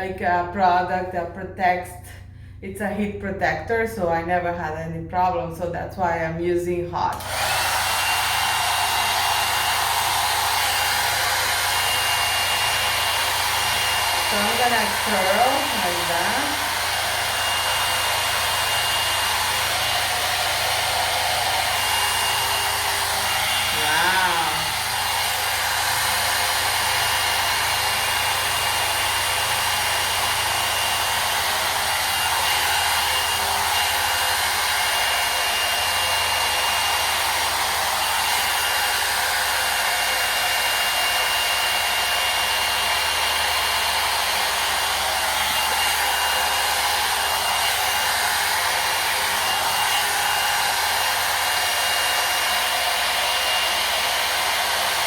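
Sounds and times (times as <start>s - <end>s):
hair dryer blowing air: 7.0s - 55.0s.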